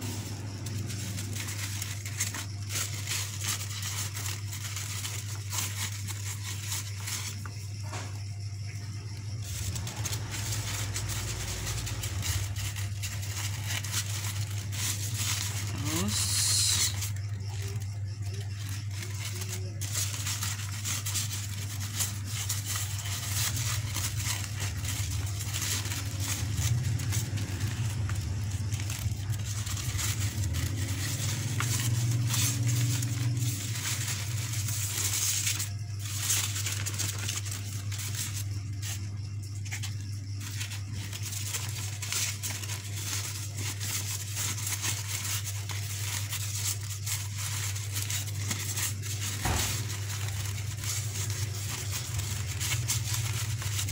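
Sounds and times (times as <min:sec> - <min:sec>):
crepe paper rustling and crinkling: 0:00.0 - 0:53.9
steady low hum: 0:00.0 - 0:53.9.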